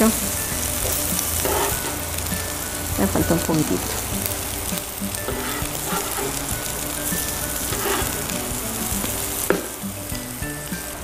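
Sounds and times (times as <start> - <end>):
patties sizzling in oil: 0.0 - 11.0
soft background music: 0.0 - 11.0.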